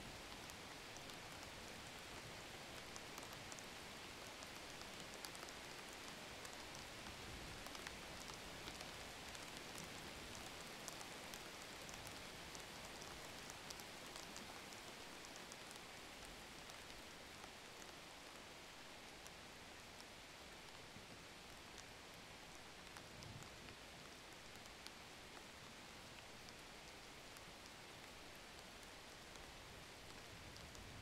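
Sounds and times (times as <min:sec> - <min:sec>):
faint steady hiss: 0:00.0 - 0:31.0
light ticks: 0:00.1 - 0:31.0.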